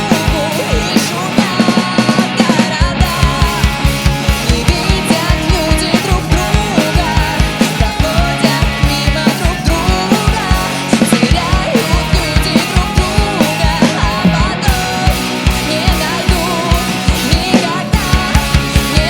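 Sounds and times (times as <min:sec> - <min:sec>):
drum kit steady beat: 0:00.0 - 0:19.0
rock band playing: 0:00.0 - 0:19.0.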